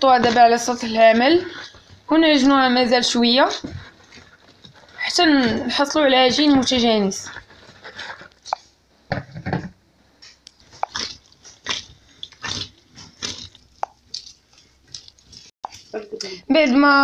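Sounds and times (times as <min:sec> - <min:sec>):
hands kneading dough: 0:00.0 - 0:08.8, 0:10.1 - 0:17.0.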